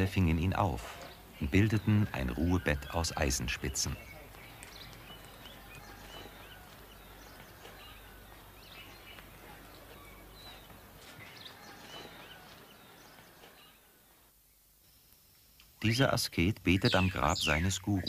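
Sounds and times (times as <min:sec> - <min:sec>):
birds chirping: 0:00.0 - 0:18.0
steady low hiss: 0:00.0 - 0:18.0.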